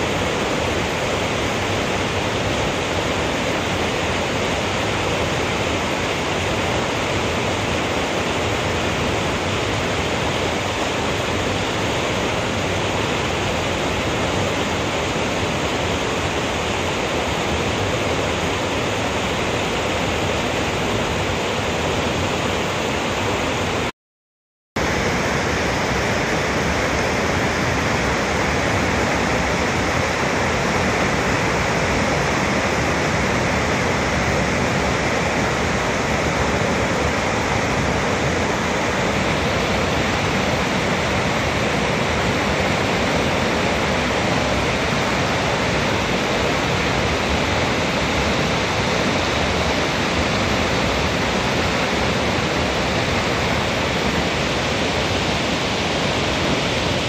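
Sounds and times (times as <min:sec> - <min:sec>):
stream rushing over boulders: 0:00.0 - 0:23.9, 0:24.8 - 0:57.0.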